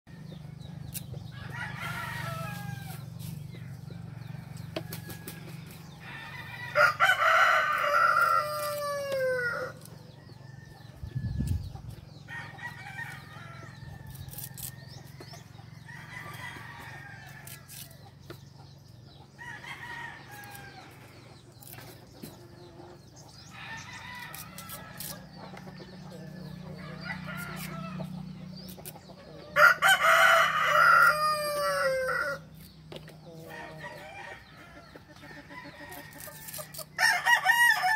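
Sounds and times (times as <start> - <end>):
roosters crowing: 0.1 - 18.4, 19.2 - 37.9.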